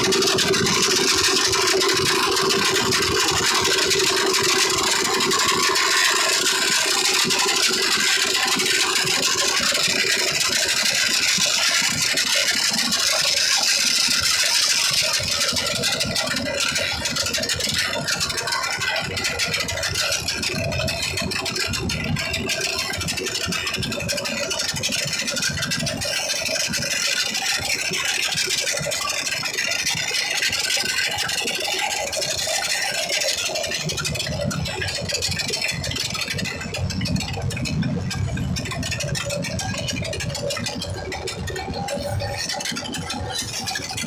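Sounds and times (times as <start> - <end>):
motorcycle engines running: 0.0 - 44.0.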